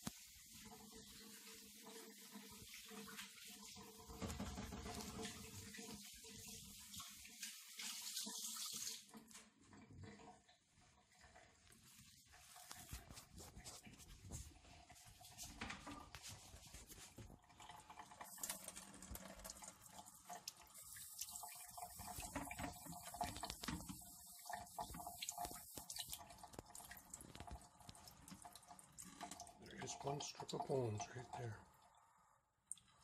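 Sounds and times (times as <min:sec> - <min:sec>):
faucet running into steel sink: 0:00.0 - 0:32.0.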